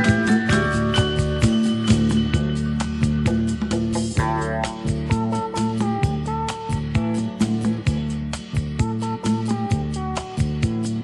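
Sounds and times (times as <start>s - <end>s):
song with guitar and drums: 0.0s - 11.0s.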